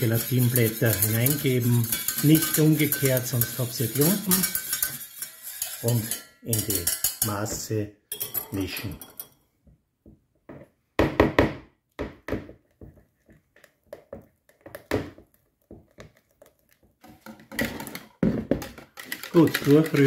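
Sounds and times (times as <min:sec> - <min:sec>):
utensil stirring cream in a bowl: 0:00.0 - 0:09.3, 0:12.6 - 0:20.0.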